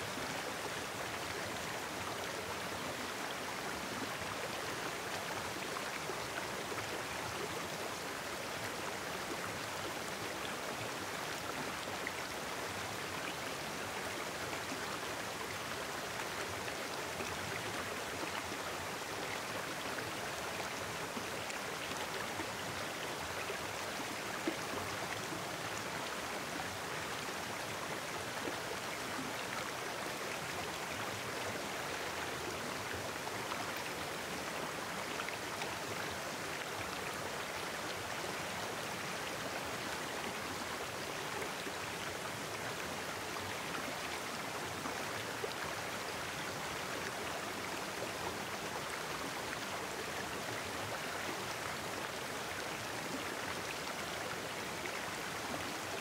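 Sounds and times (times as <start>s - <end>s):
stream babbling over rocks: 0.0s - 56.0s.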